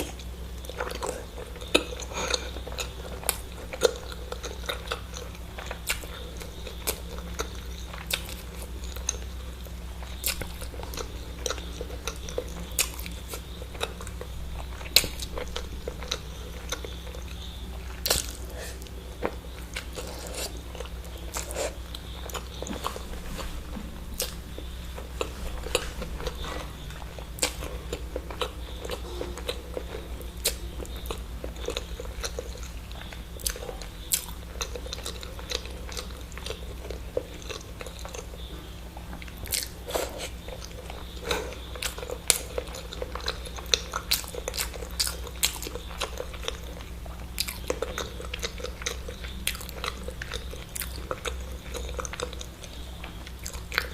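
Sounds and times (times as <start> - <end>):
person chewing with mouth clicks: 0.0 - 53.9
steady low hum: 0.0 - 53.9.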